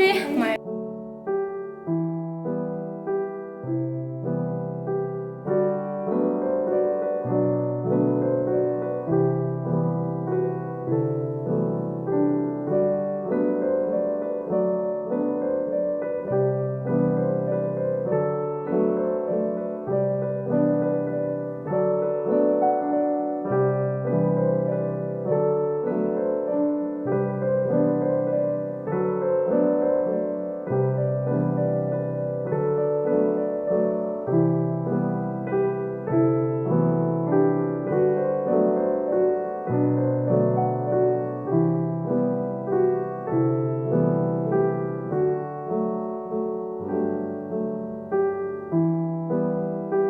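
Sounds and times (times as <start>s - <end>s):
piano melody: 0.0s - 50.0s.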